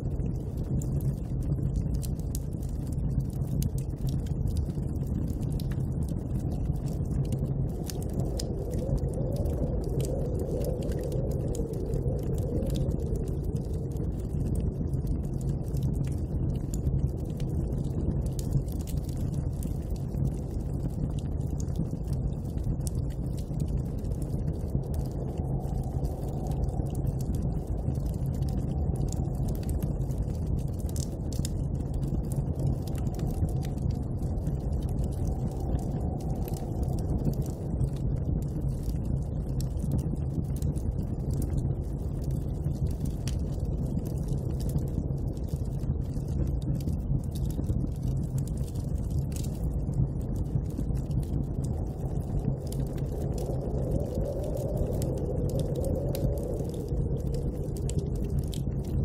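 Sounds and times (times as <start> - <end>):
snowstorm wind rumbling: 0.0 - 59.0
wood fire crackling: 0.1 - 59.0.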